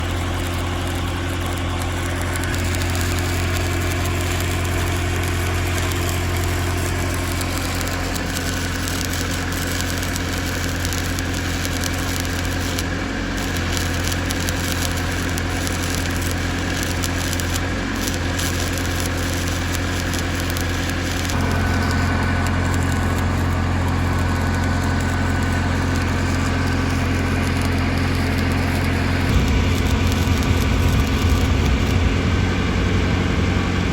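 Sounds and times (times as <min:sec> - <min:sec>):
low machine hum: 0:00.0 - 0:33.9
welding arc crackling: 0:00.0 - 0:33.9.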